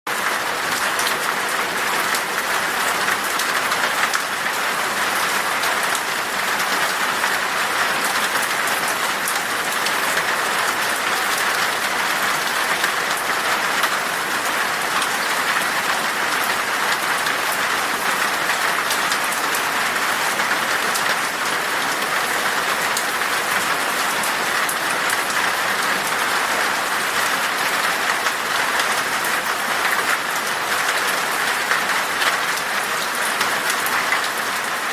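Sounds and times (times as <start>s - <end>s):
steady rain in forest: 0.1s - 34.9s.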